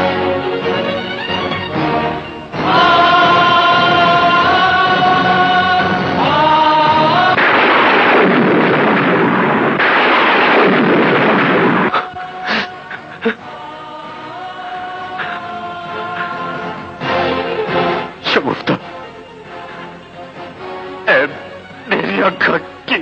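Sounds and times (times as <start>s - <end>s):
dramatic orchestral score: 0.0s - 9.6s, 11.1s - 23.0s.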